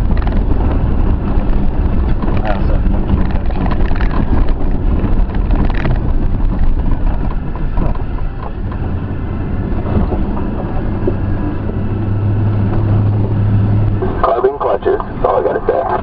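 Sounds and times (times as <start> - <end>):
vehicle engine running: 0.0 - 16.0
wind noise on microphone: 0.0 - 16.0.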